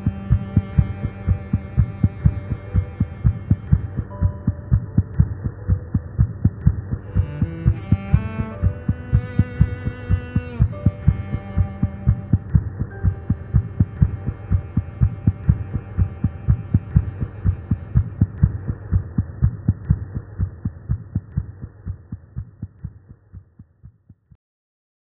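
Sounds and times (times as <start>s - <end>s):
heartbeat: 0.0s - 24.4s.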